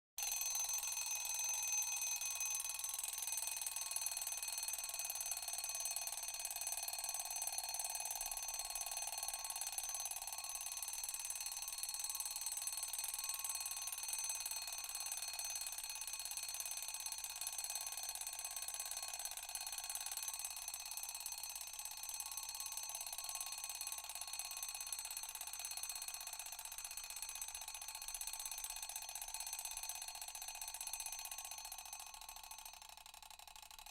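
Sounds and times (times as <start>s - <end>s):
mechanical alarm bell ringing: 0.2s - 33.9s.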